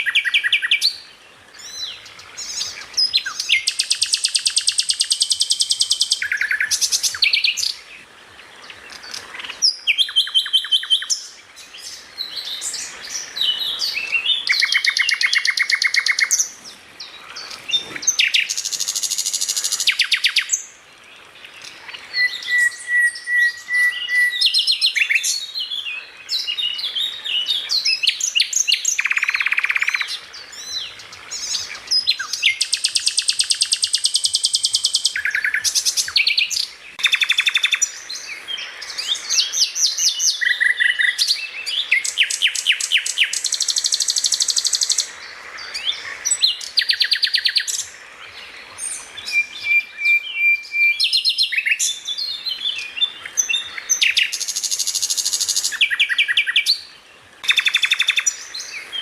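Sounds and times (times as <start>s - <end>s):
songbird calls and trills: 0.0s - 59.0s.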